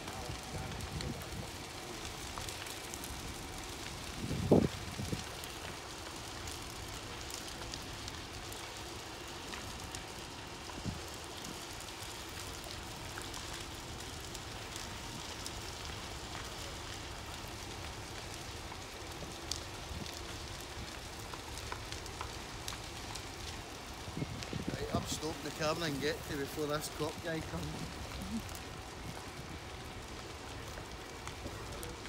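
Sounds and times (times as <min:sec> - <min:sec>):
building fire crackling: 0:00.0 - 0:32.0.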